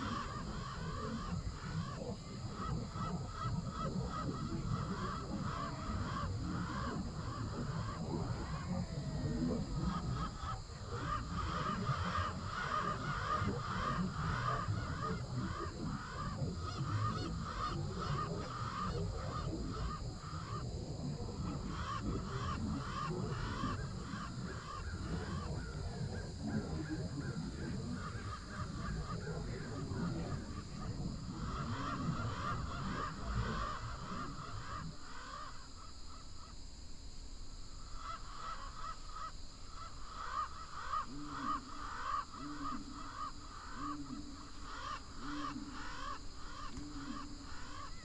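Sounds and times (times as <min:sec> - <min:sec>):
harsh call-like squawks: 0:00.0 - 0:36.6, 0:37.8 - 0:48.0.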